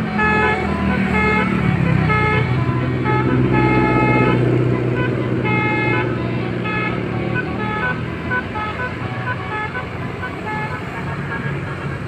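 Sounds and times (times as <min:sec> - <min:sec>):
low engine rumble: 0:00.0 - 0:12.0
musical car horn notes: 0:00.0 - 0:12.0.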